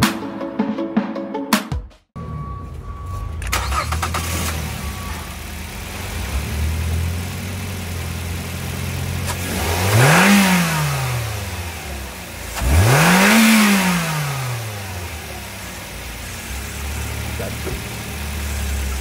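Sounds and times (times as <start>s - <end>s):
car engine idling and revving: 2.2s - 19.0s.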